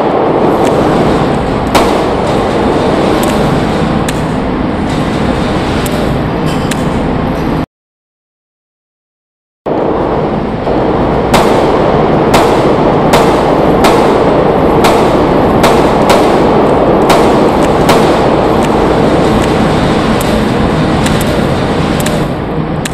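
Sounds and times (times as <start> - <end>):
rapid handgun fire: 0.0 - 7.0, 9.7 - 22.9
sharp single gunshots: 0.0 - 7.0, 10.8 - 22.4.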